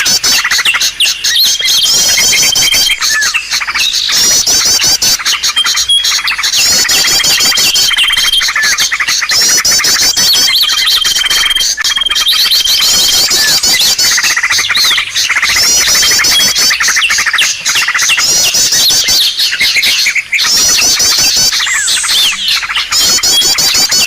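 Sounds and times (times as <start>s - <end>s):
small birds chirping and trilling: 0.0s - 24.0s.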